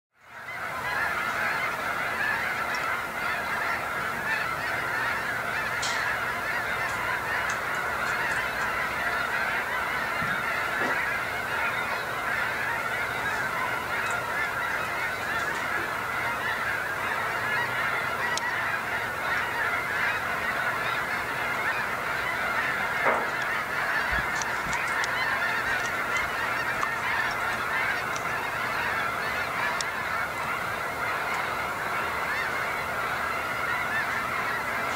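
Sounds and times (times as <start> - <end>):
flock of geese calling: 0.2 - 34.9.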